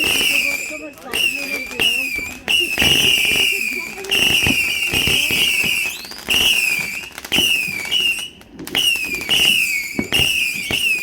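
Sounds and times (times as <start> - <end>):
firework crackles and pops: 0.0 - 11.0
whistling fireworks: 0.0 - 11.0.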